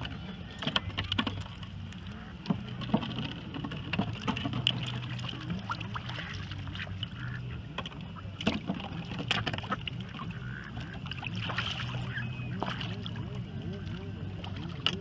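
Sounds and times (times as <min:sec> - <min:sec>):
steady low hum: 0:00.0 - 0:15.0
water lapping against boat: 0:00.0 - 0:15.0.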